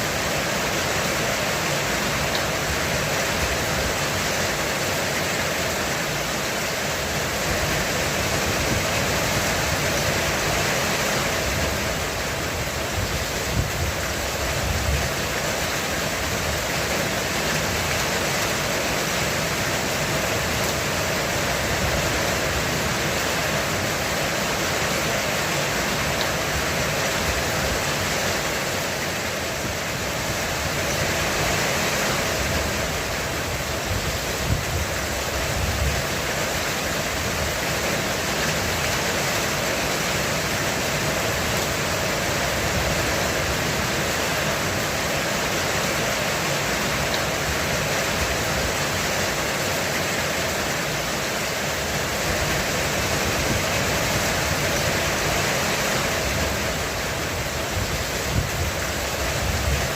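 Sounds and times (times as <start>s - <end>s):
heavy rain on roof: 0.0s - 59.9s.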